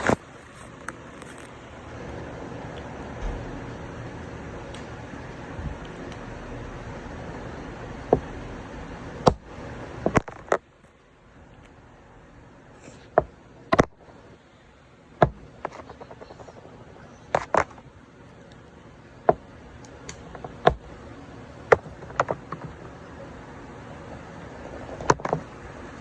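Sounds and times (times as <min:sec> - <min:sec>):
low steady hiss: 0:00.0 - 0:26.0.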